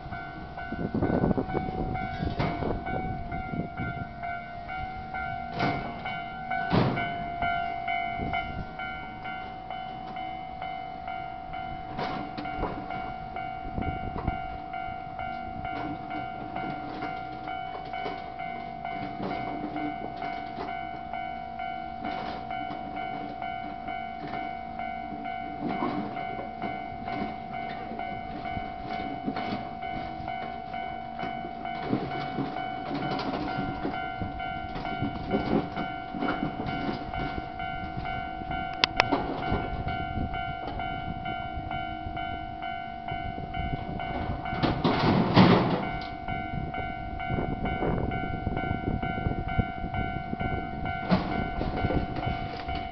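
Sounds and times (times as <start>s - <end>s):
level crossing alarm dinging: 0.0s - 52.9s
train running on rails: 0.0s - 52.9s.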